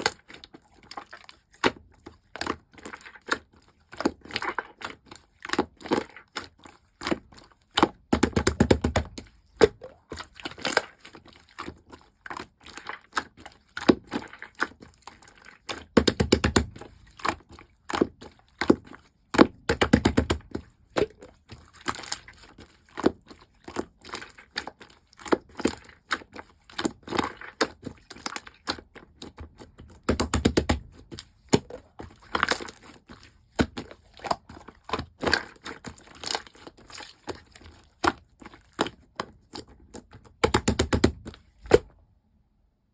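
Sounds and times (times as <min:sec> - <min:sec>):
slime squished by hand: 0:00.0 - 0:42.0.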